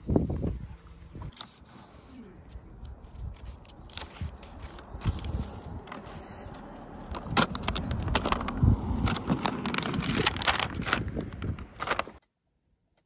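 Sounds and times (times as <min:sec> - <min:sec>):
paper crinkling: 0:01.3 - 0:12.2.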